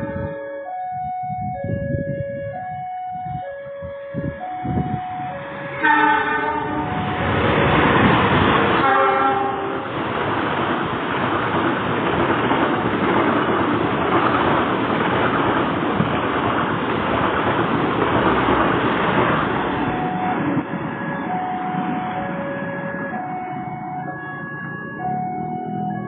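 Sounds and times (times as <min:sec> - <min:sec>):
train carriages rushing past: 0:04.6 - 0:26.0.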